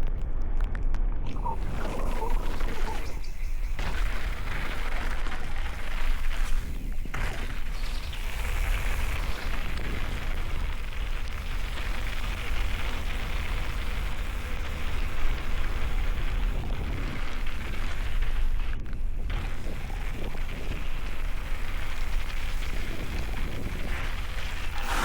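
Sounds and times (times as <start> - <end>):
wind buffeting microphone: 1.3 - 25.0
tyres hissing on wet ground: 1.6 - 25.0.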